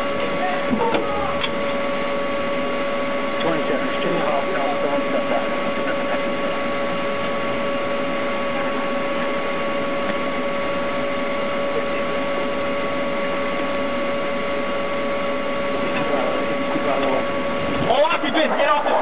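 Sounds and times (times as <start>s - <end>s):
constant thin whine: 0.0s - 19.0s.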